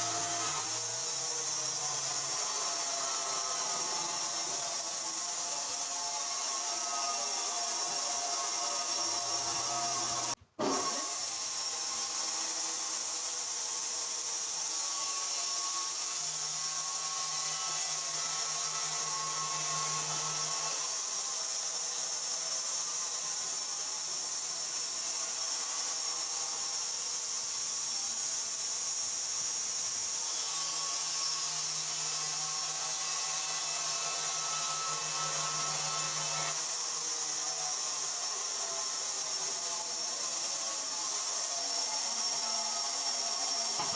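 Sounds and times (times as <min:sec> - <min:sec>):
saw cutting wood: 0:00.0 - 0:43.9.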